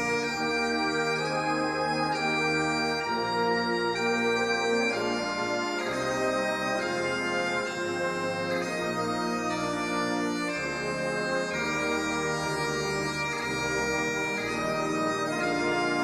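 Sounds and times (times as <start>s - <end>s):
bagpipe music: 0.0s - 16.0s.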